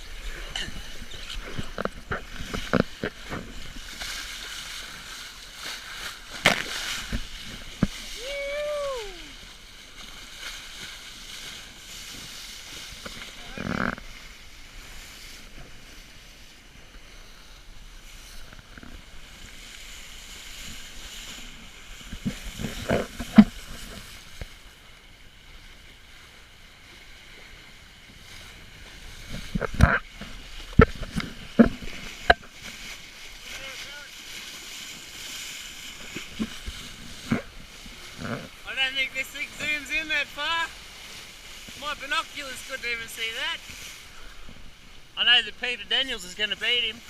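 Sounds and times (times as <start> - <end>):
water rushing past boat: 0.0 - 47.0.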